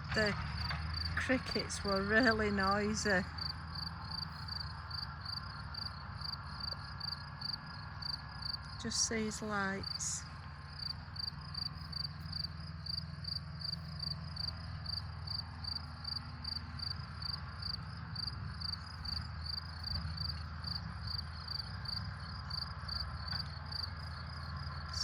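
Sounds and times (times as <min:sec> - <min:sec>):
tractor engine drone: 0:00.0 - 0:25.0
crickets chirping: 0:00.3 - 0:25.0.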